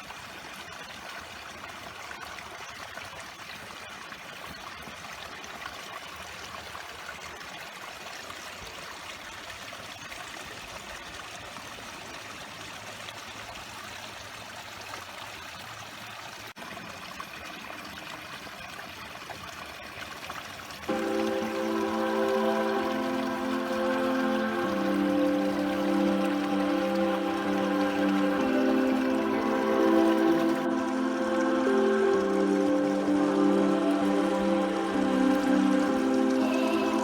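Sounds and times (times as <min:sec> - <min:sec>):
stream water trickling: 0:00.0 - 0:37.0.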